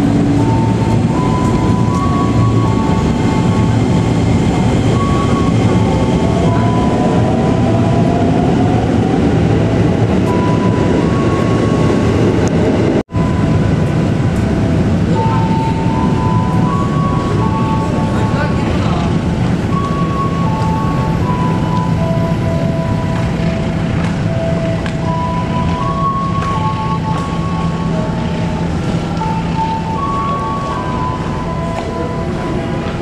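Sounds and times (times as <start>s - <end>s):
rising tone: 0.0s - 33.0s
train rumble: 0.0s - 33.0s.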